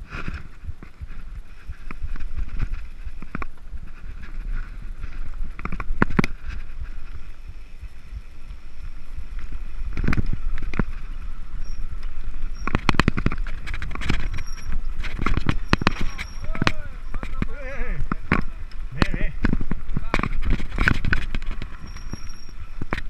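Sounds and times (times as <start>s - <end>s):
bike knocking and rattling: 0.0s - 23.0s
tyre noise on dirt: 0.0s - 23.0s
wind rumble on microphone: 0.0s - 23.0s.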